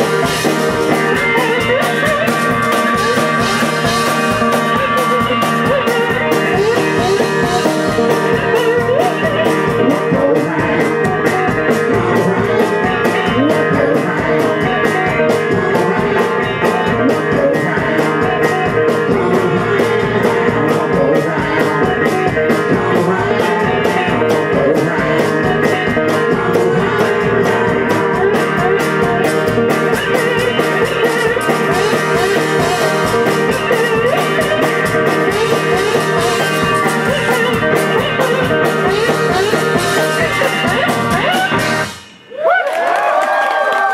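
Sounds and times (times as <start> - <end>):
fast percussion beat: 0.0 - 42.6
electric guitar: 0.0 - 43.9.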